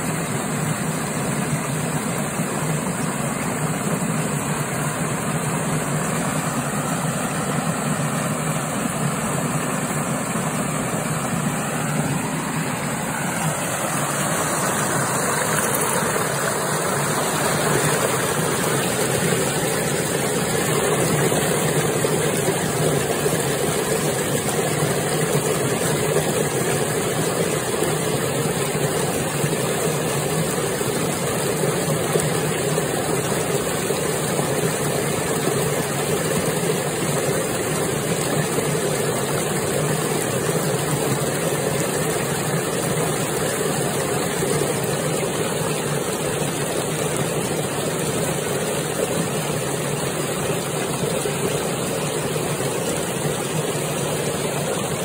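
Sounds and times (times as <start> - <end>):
water rushing down a channel: 0.0 - 55.0.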